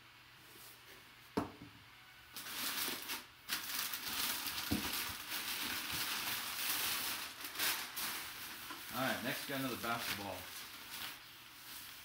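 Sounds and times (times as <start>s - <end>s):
packing paper rustling: 2.4s - 12.0s.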